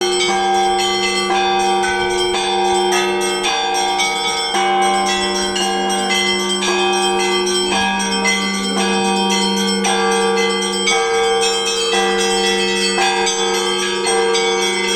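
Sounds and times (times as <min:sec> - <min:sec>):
deep bell tones: 0:00.0 - 0:14.9.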